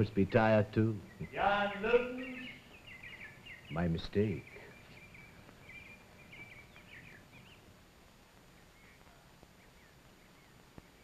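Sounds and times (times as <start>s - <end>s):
birds chirping: 0.0s - 11.0s
soundtrack hiss: 0.0s - 11.0s.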